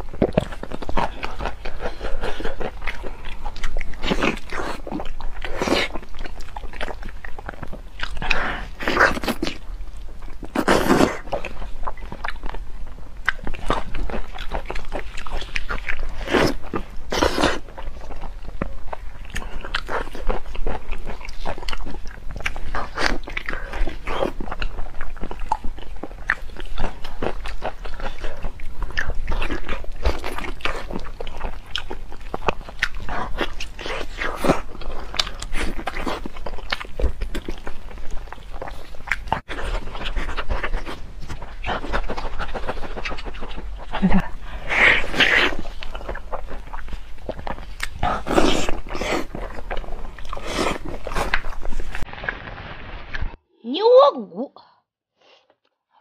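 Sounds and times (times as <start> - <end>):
crunching and chewing: 0.0 - 53.4.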